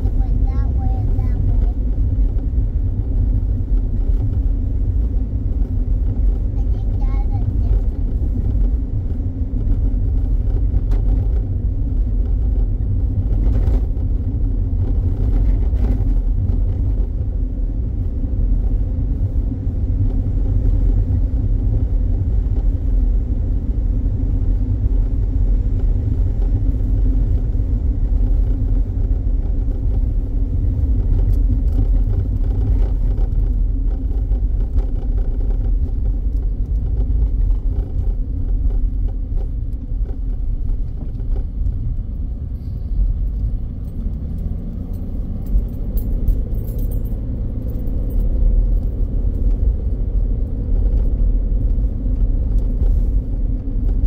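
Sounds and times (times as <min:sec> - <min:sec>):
car interior engine rumble: 0:00.0 - 0:54.0.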